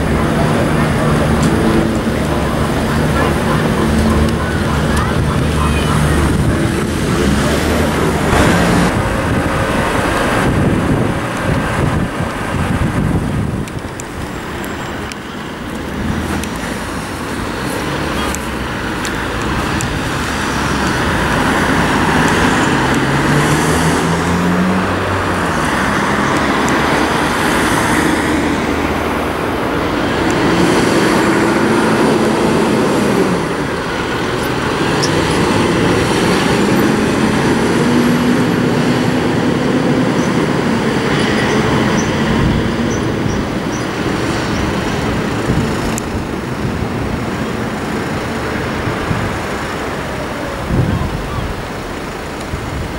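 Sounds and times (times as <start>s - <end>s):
fire engine diesel engine: 0.0s - 52.9s
road traffic noise: 0.0s - 52.9s.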